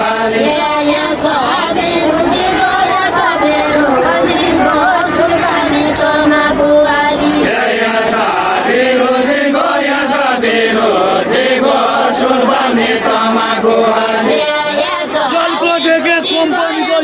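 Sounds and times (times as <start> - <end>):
group singing without instruments: 0.0 - 17.0.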